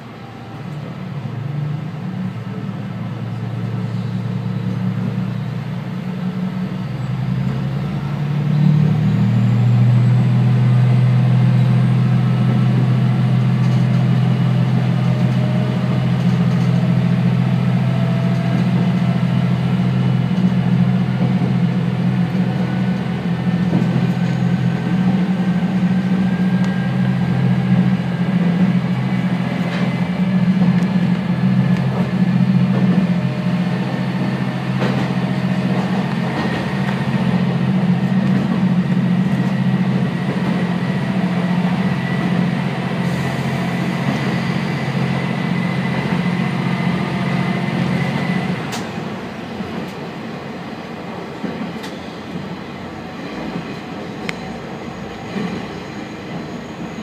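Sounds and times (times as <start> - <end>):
train engine drone: 0.0 - 57.0.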